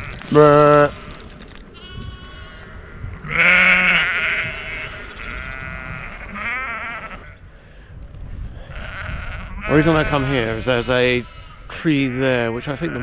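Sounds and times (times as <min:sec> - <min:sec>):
sheep bleating: 0:00.0 - 0:07.4, 0:08.7 - 0:13.0.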